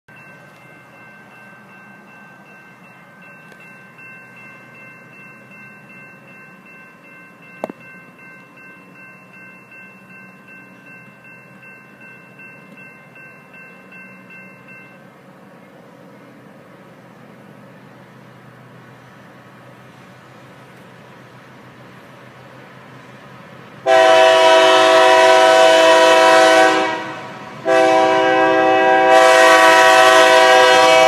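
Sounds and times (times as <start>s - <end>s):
freight train rumble: 0.1s - 31.0s
railroad crossing bell ringing: 0.1s - 31.0s.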